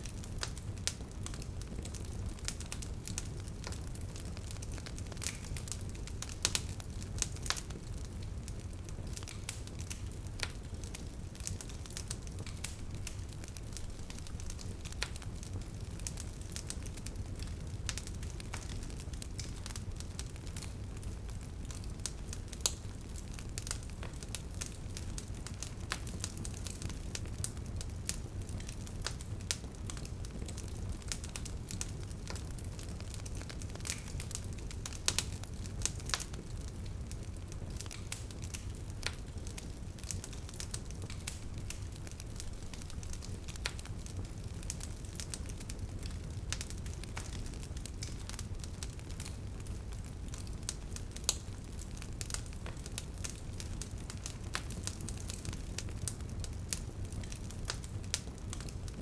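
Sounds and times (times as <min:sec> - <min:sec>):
wood fire crackling: 0:00.0 - 0:59.0
sharp pops from fire: 0:00.1 - 0:59.0.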